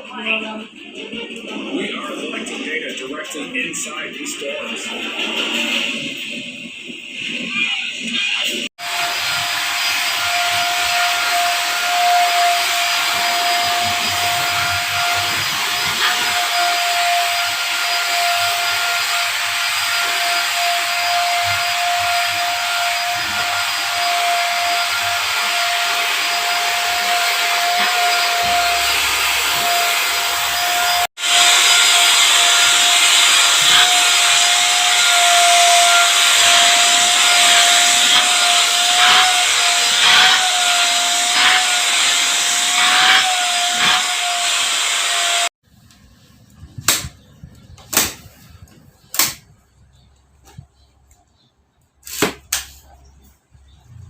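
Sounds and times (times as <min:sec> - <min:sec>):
vacuum cleaner running: 0:00.1 - 0:45.5.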